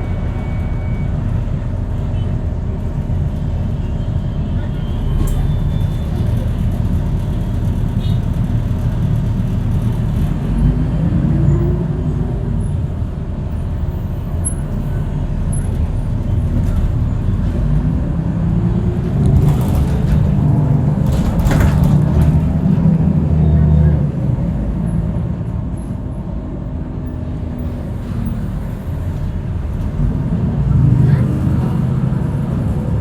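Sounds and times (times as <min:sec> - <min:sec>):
passing vehicles rumbling: 0:00.0 - 0:33.0.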